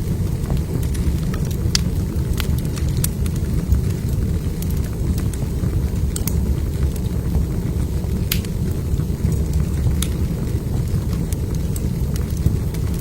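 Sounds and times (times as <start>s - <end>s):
fire crackling pops: 0.0s - 13.0s
wood fire burning: 0.0s - 13.0s.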